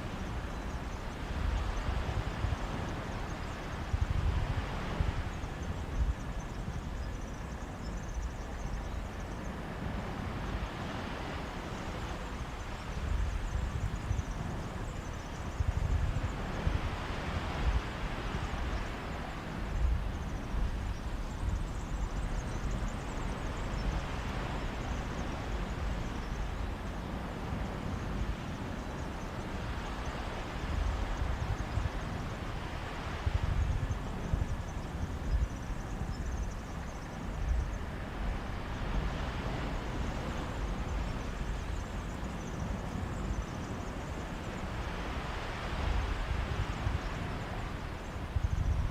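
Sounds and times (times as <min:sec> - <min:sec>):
wind rumbling on microphone: 0:00.0 - 0:48.9
sea surf washing on beach: 0:09.0 - 0:48.9.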